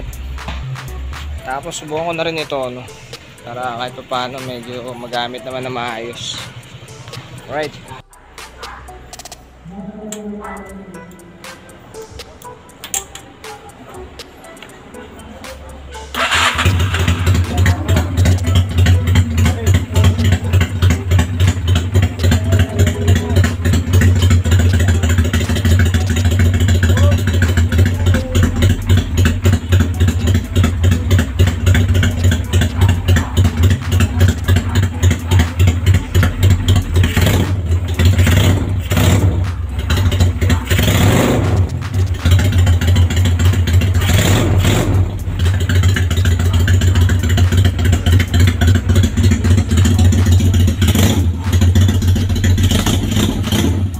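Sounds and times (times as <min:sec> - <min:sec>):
motorcycle engine idling: 0:00.0 - 0:08.2, 0:16.1 - 0:53.9.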